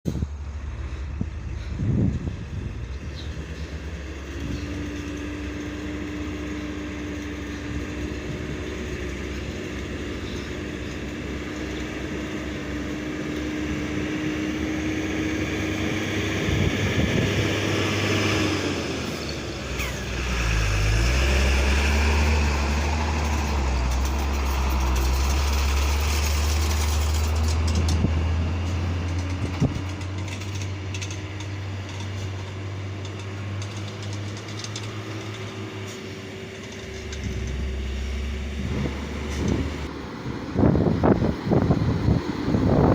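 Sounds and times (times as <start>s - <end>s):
diesel truck engine running: 0.1s - 42.9s.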